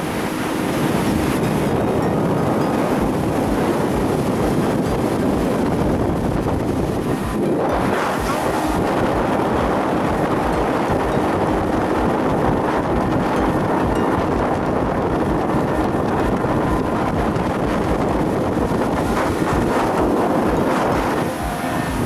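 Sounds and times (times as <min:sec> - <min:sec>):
outboard motor running: 0:00.0 - 0:22.0
water rushing past: 0:00.0 - 0:22.0
wind buffeting microphone: 0:00.0 - 0:22.0.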